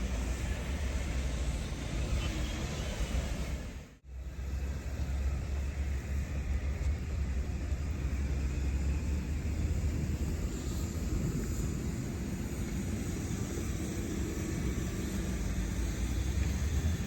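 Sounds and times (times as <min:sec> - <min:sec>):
traffic rumble: 0:00.0 - 0:17.0
tyre and street noise: 0:00.0 - 0:17.0.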